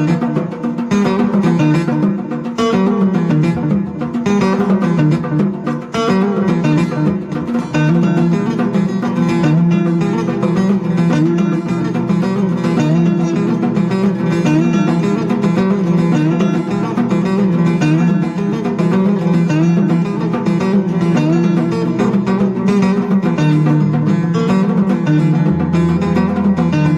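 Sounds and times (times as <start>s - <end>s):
plucked notes background music: 0.0s - 26.9s.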